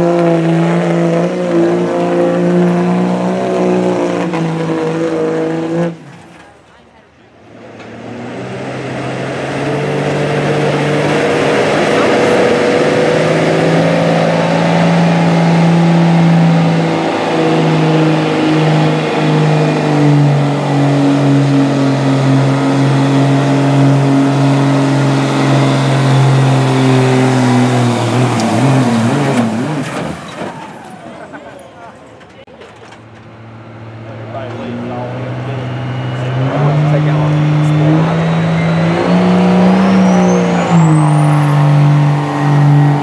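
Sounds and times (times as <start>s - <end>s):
pickup engine under heavy load: 0.0s - 43.0s.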